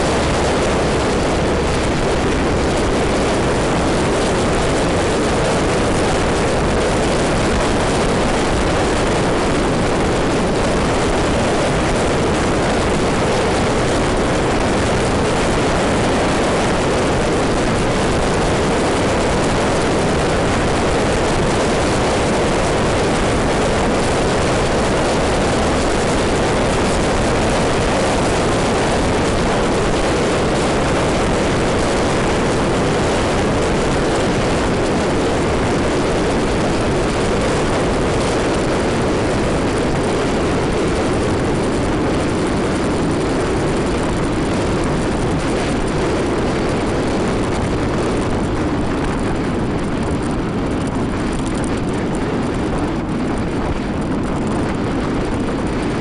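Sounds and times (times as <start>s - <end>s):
scooter engine and road noise: 0.0s - 56.0s
wind rushing on microphone: 0.0s - 56.0s.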